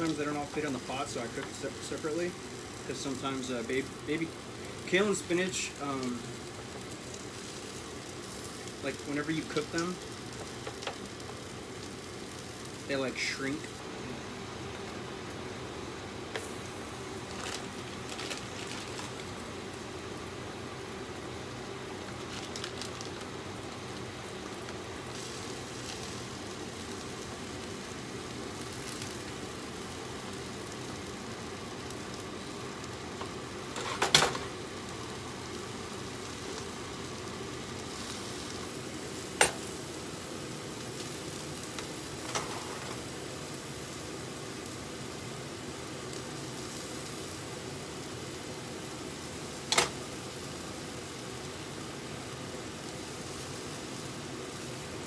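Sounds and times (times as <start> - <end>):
food frying sizzle: 0.0 - 55.0.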